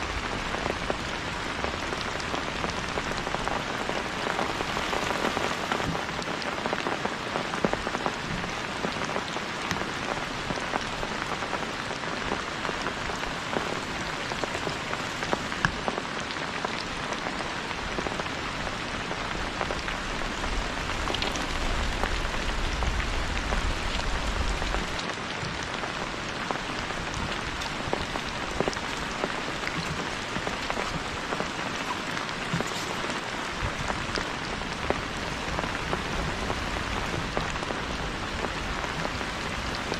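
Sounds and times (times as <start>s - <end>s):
heavy rain falling: 0.0s - 39.9s
raindrops ticking on a surface: 0.0s - 39.9s.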